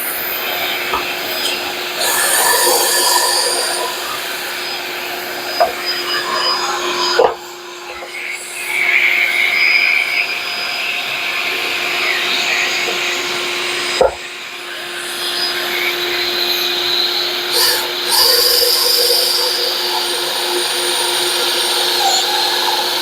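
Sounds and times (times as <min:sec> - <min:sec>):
high whine: 0:00.0 - 0:23.0
shop vacuum humming: 0:00.0 - 0:23.0.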